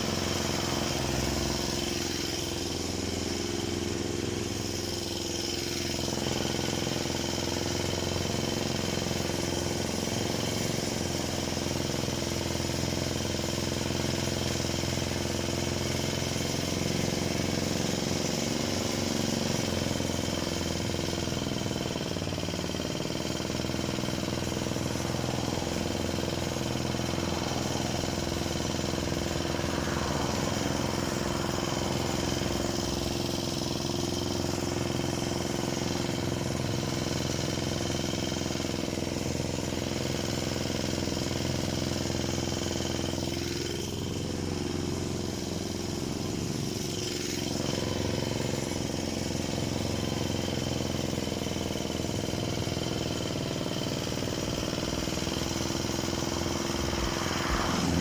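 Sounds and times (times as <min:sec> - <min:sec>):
chainsaw running: 0:00.0 - 0:58.0.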